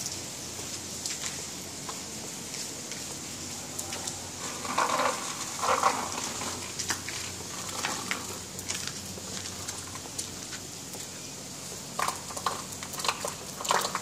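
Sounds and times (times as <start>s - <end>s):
rain on concrete roof: 0.0s - 14.0s
water drips and taps: 0.0s - 14.0s.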